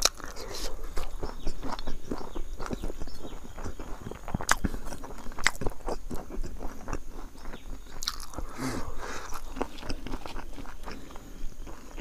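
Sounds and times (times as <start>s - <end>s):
mouth clicks: 0.0s - 12.0s
person chewing: 0.0s - 12.0s.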